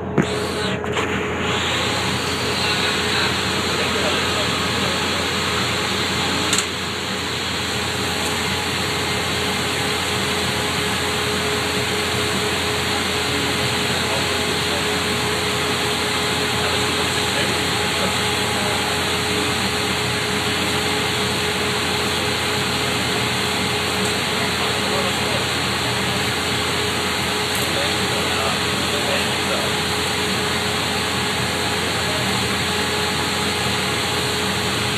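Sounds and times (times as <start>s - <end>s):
furnace and fans rushing: 0.0s - 34.9s.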